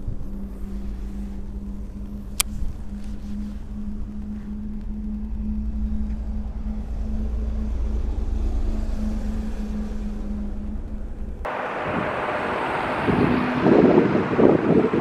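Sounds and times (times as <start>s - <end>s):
constant hum: 0.0s - 15.0s
road traffic rumble: 0.0s - 15.0s
wind buffeting microphone: 0.0s - 15.0s.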